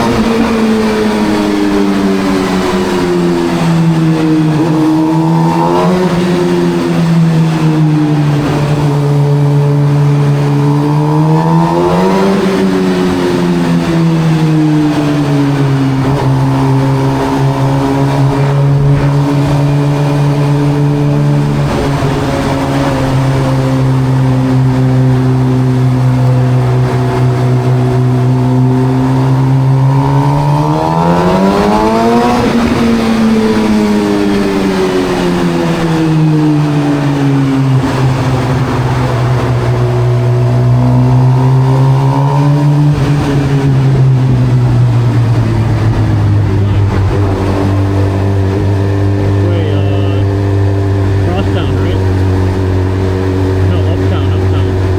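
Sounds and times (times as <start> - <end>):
motorcycle exhaust cruising: 0.0 - 54.9.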